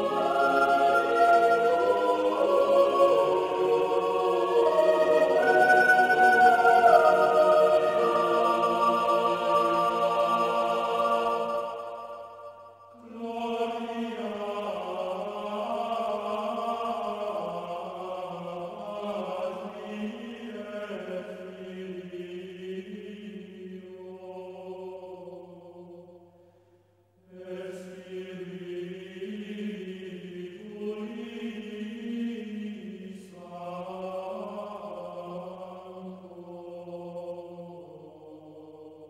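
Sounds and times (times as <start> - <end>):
choir singing sustained chords: 0.0 - 26.6, 27.3 - 39.0.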